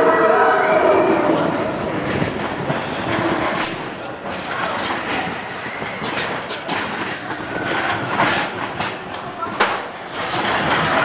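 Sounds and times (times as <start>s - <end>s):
roller coaster wheels rumbling: 0.0s - 11.0s
coaster car rattling and clacking: 1.6s - 11.0s.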